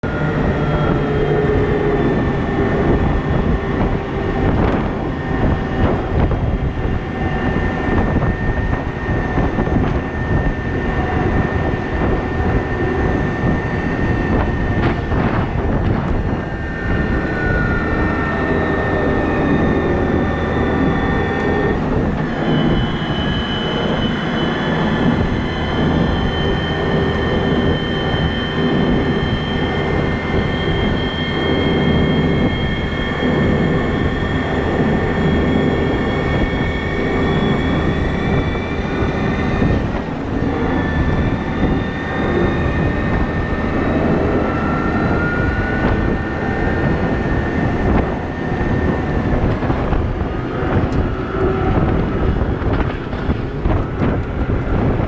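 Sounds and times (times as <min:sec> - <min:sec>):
diesel engine running: 0:00.0 - 0:55.0
steady whine: 0:00.0 - 0:55.0.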